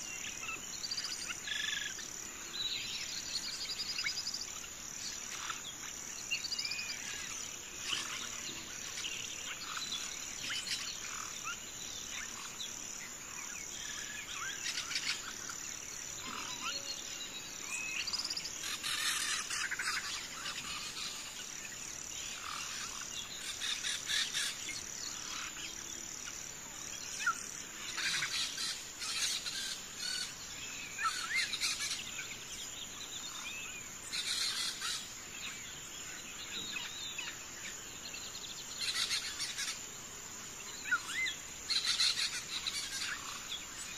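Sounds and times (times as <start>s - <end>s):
birds chirping: 0.0s - 43.9s
insect drone: 0.0s - 43.9s.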